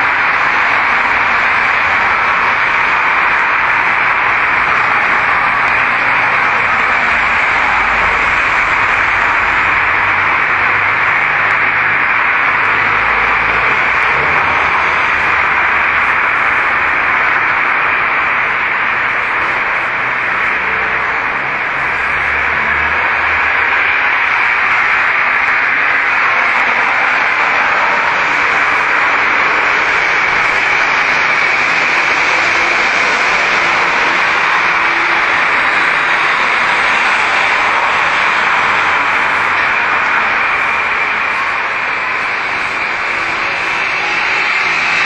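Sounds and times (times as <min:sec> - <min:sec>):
loud recording hiss: 0:00.0 - 0:45.0.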